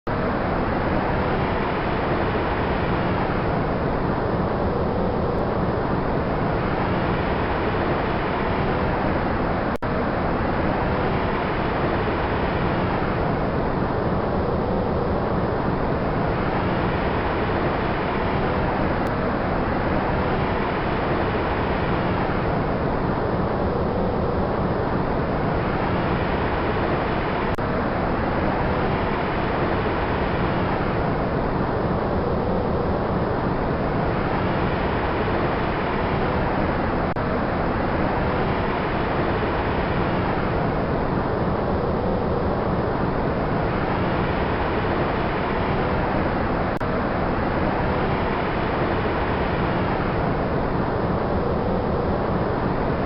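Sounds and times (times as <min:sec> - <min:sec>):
wind and blowing sand: 0:00.1 - 0:53.0.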